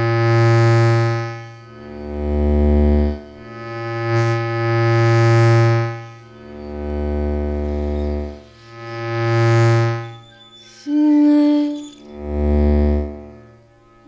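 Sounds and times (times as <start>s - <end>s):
microphone feedback drone: 0.0s - 14.0s.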